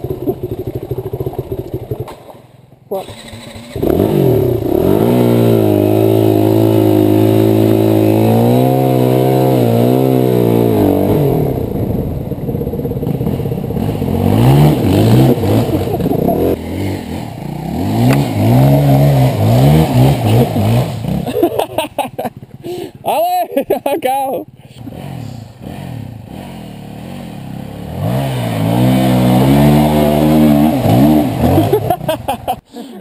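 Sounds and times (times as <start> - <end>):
dirt bike engine revving: 0.0 - 22.9, 24.8 - 32.4.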